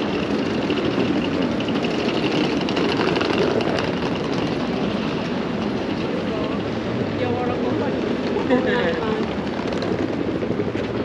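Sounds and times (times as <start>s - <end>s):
passing traffic: 0.0s - 11.0s.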